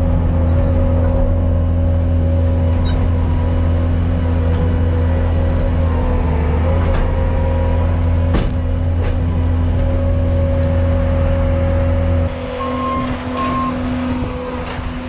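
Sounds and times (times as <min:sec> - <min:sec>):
loader diesel engine running: 0:00.0 - 0:15.0.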